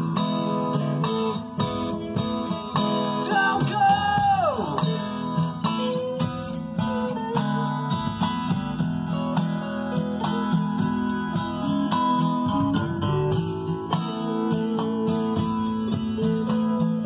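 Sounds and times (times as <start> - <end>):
strummed acoustic guitar: 0.0 - 17.0
steady quick beat: 1.2 - 17.0.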